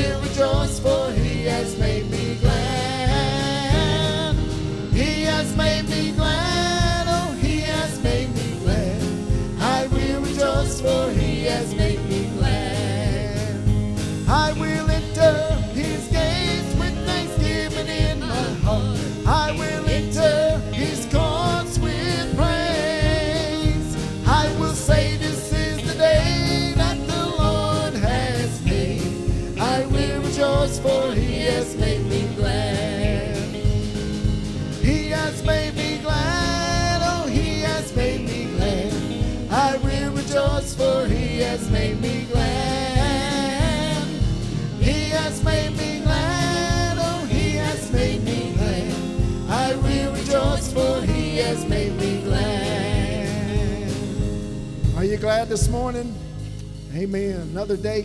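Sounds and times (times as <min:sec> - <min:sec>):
singers with band: 0:00.0 - 0:56.8
steady drum beat: 0:00.0 - 0:58.0.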